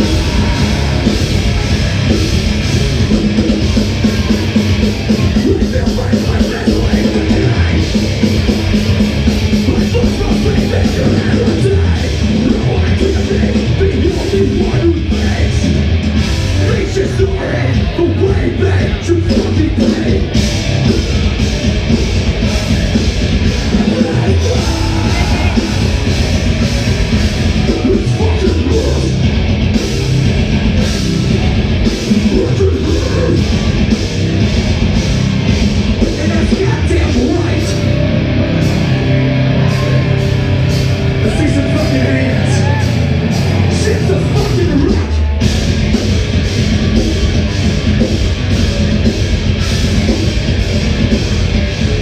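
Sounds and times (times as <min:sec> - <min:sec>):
live rock band playing: 0:00.0 - 0:52.0.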